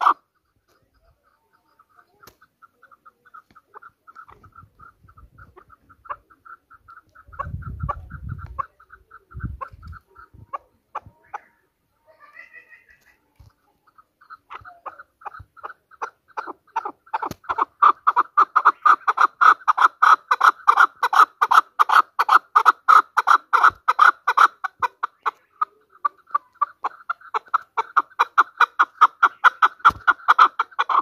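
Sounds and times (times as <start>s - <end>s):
partridge calling: 0.0s - 31.0s.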